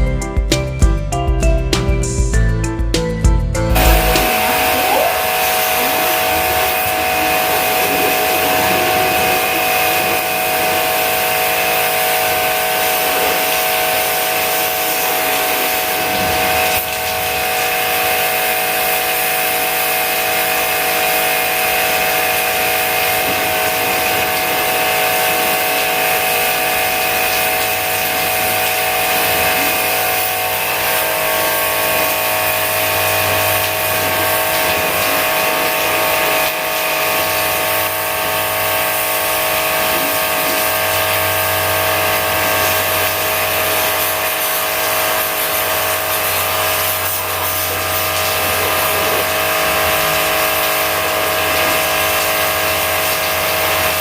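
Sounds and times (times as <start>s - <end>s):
machine motor whining: 3.7s - 54.0s.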